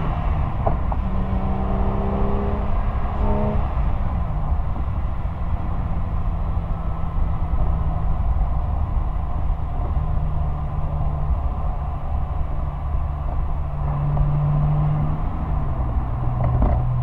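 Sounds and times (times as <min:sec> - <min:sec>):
car engine rumbling while driving: 0:00.0 - 0:17.0.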